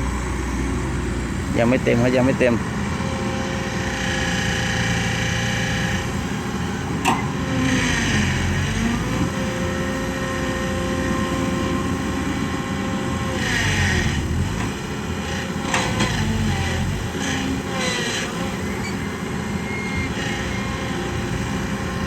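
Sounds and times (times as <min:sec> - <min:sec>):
excavator diesel engine under load: 0:00.0 - 0:22.0.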